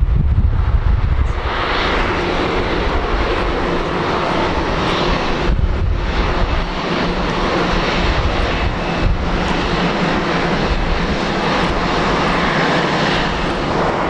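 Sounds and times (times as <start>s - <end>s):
jet engines running: 0.0s - 14.0s
wind rumble on microphone: 0.0s - 14.0s.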